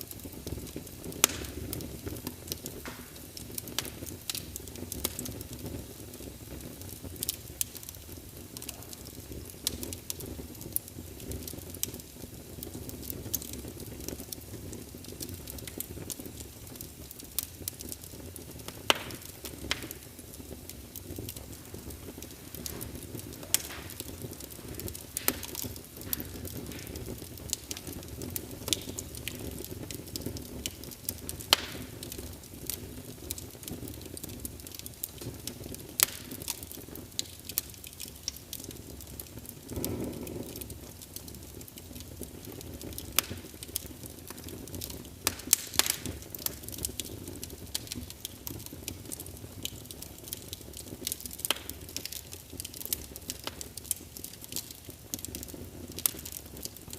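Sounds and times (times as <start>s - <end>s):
sharp pops from fire: 0.0s - 56.9s
wood fire crackling: 0.0s - 56.9s.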